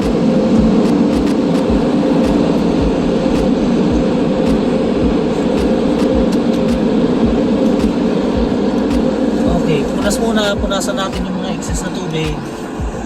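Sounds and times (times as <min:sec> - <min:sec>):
air-dryer blowers rushing: 0:00.0 - 0:13.0
low thumps: 0:00.0 - 0:13.0.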